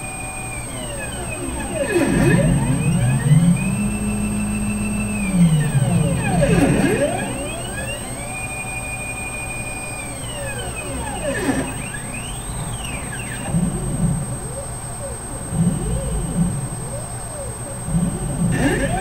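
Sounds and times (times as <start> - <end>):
stepper motor whine: 0.0 - 19.0.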